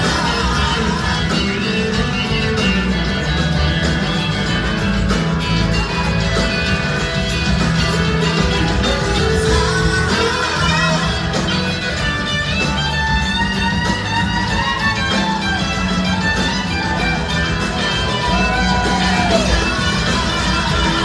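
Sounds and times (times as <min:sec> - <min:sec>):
drums: 0:00.0 - 0:21.0
electric guitar with bent notes: 0:00.0 - 0:21.0
heavy bass: 0:00.0 - 0:21.0.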